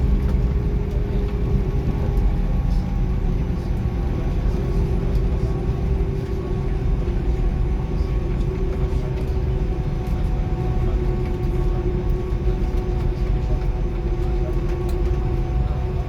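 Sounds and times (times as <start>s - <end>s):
jet engines droning: 0.0s - 16.0s.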